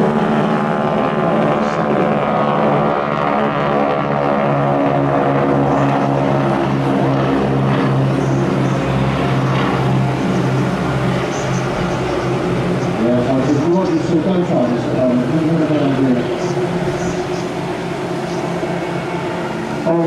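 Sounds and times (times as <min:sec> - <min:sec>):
biplane engine and propeller: 0:00.0 - 0:20.0.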